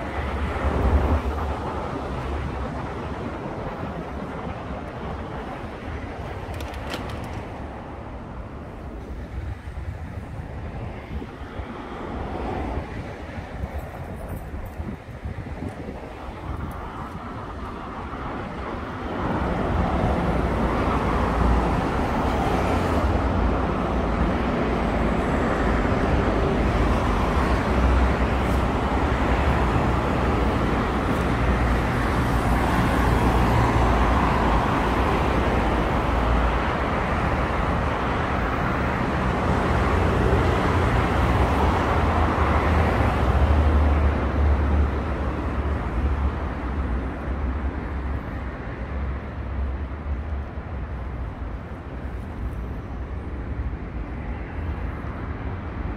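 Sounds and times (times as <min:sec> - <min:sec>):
cars passing: 0:00.0 - 0:55.9.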